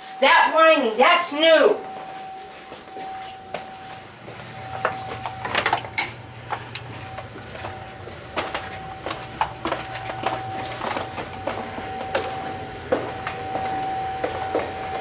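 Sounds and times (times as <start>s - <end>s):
oil burner whine and hum: 0.0s - 15.0s.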